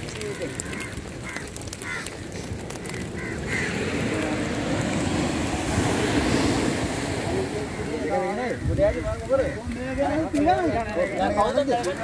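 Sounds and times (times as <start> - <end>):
surf on a beach: 0.0 - 11.9
wind: 0.0 - 12.0.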